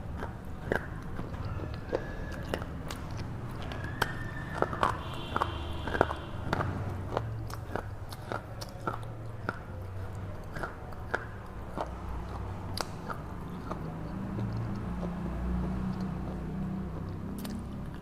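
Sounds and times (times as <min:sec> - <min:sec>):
crunching while chewing: 0:00.0 - 0:18.0.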